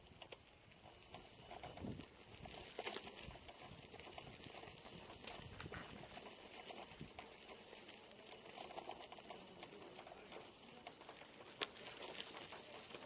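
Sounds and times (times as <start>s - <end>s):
tyre rolling over gravel: 0.0s - 13.0s.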